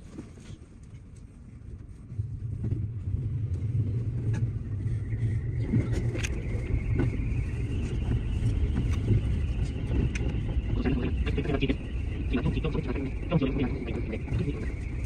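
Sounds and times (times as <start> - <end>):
electric train rumble: 0.0 - 15.0
traction motor whine: 2.1 - 15.0.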